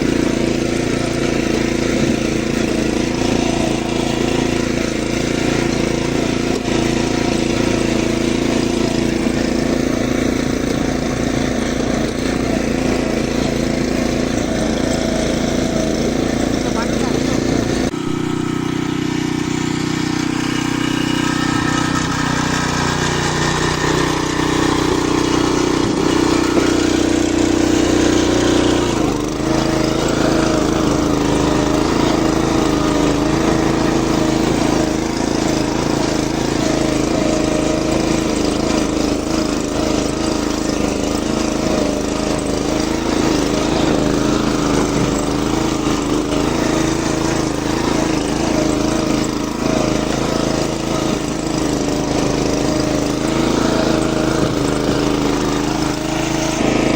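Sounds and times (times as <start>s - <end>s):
small cart engine running: 0.0s - 56.9s.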